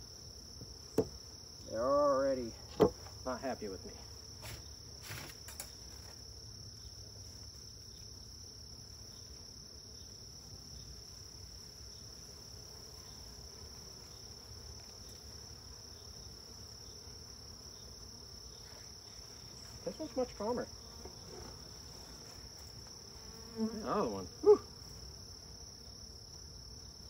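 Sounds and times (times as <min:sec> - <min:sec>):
night insects trilling: 0:00.0 - 0:27.0.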